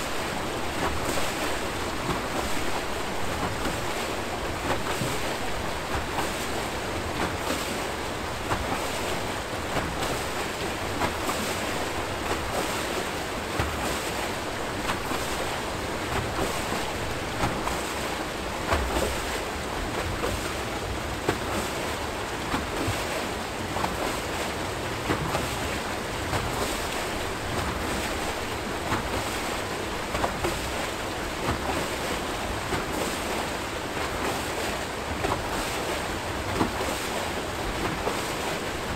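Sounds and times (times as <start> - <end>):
small water splashes: 0.0 - 38.9
turbulent water rushing: 0.0 - 38.9.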